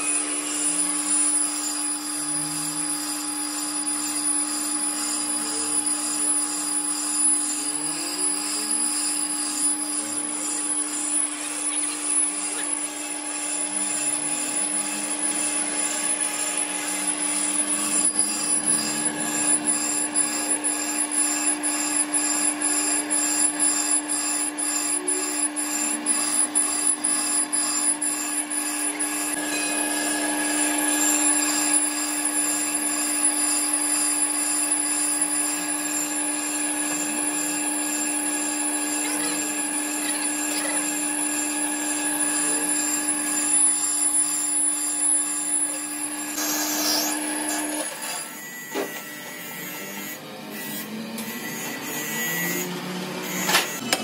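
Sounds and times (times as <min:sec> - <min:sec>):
cutting bit scraping metal: 0:00.0 - 0:54.0
lathe motor hum: 0:00.0 - 0:54.0.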